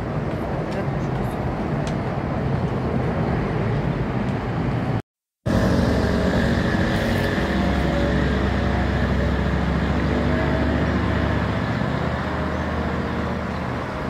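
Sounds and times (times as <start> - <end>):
wind rumble: 0.0 - 12.4.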